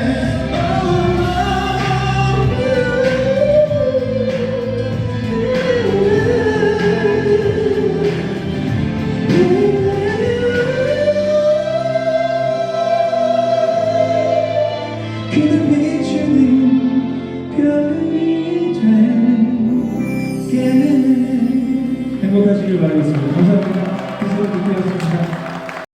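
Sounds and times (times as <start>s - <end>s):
backing track music: 0.0s - 25.9s.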